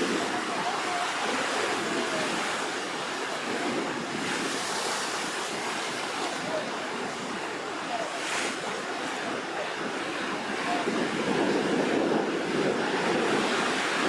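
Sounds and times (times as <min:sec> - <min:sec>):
surf breaking and washing in: 0:00.0 - 0:14.0.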